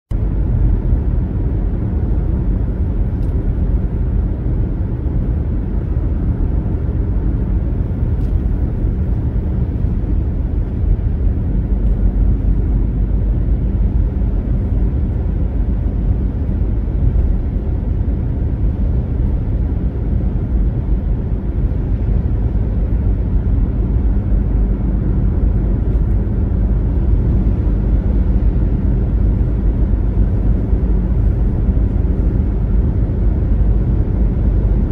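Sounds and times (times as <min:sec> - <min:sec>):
car driving along road: 0:00.1 - 0:34.9.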